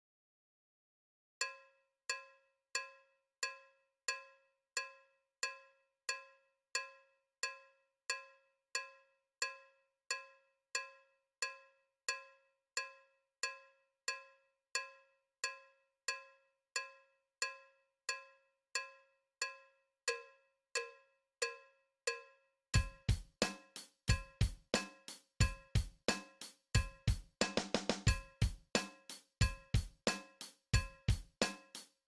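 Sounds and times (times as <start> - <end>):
cowbell-like clicks at steady beat: 1.4 - 32.0.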